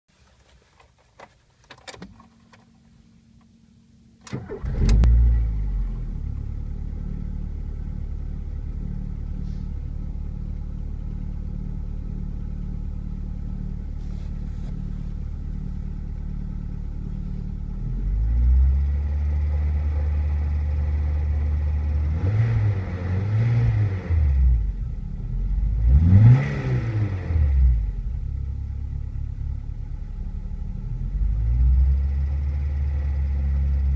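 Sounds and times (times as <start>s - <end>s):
car engine idling: 2.1s - 22.2s, 24.3s - 26.0s, 27.0s - 33.9s
car engine revving: 4.3s - 33.9s.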